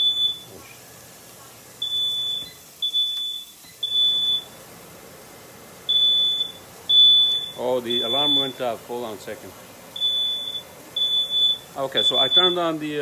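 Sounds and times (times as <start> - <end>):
smoke alarm beeping: 0.0 - 1.2, 1.8 - 4.7, 5.8 - 9.3, 9.9 - 13.0.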